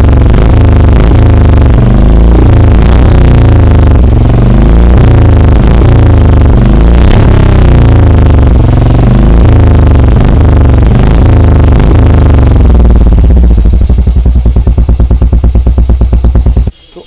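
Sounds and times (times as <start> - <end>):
motorcycle engine revving and idling: 0.0 - 16.8.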